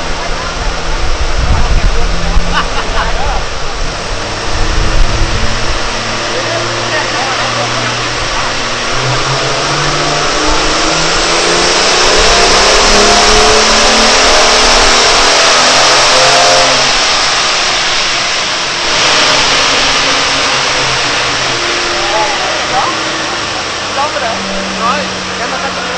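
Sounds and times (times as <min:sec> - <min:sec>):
car engine revving at full throttle: 0:00.0 - 0:25.9
loud steady rush of noise: 0:00.0 - 0:25.9.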